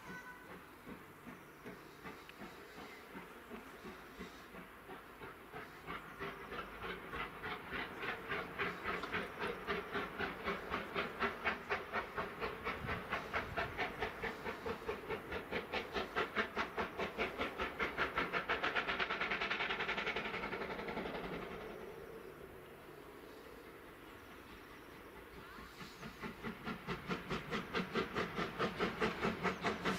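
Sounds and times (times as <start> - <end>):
steam locomotive chuffing: 0.0 - 29.9.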